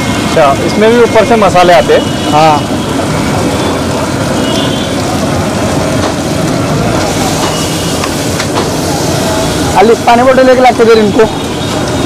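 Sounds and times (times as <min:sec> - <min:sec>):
griddle burner noise: 0:00.0 - 0:12.0
street traffic: 0:00.0 - 0:12.0.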